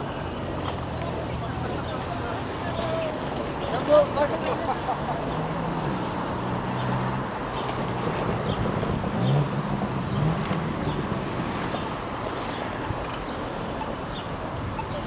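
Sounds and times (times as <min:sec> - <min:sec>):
passing cars traffic noise: 0:00.0 - 0:15.0.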